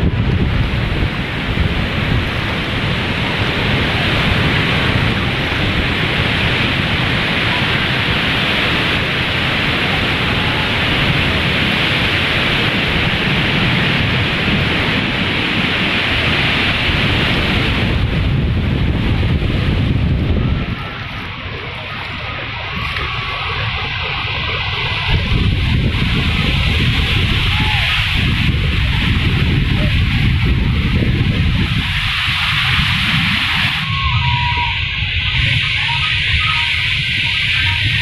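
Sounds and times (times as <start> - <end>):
surf breaking on beach: 0.0 - 38.0
wind buffeting microphone: 0.0 - 38.0.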